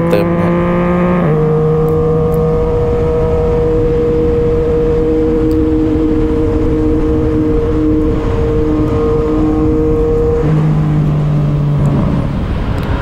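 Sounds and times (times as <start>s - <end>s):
motorcycle engine cruising: 0.0s - 13.0s
wind rumble on microphone: 0.0s - 13.0s.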